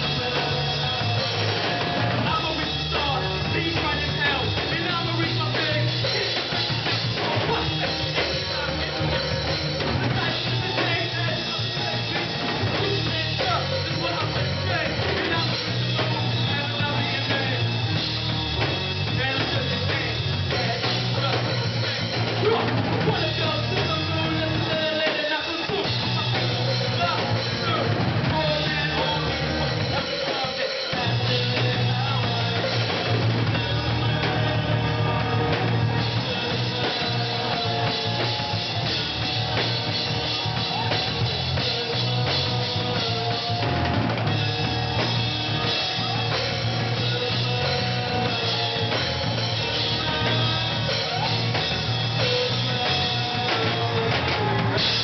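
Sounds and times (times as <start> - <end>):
low bass line: 0.0 - 24.9, 25.8 - 30.0, 31.0 - 55.0
drum kit: 0.0 - 55.0
live rock band playing: 0.0 - 55.0.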